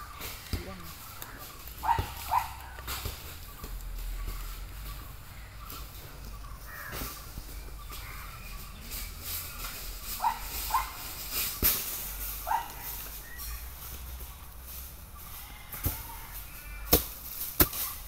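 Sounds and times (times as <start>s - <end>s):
crackling like dry leaves: 0.0s - 18.0s.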